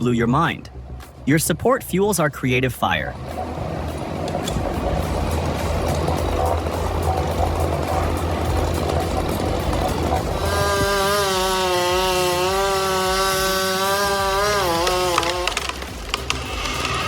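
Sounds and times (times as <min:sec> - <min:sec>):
chainsaw engine: 0:03.2 - 0:17.0.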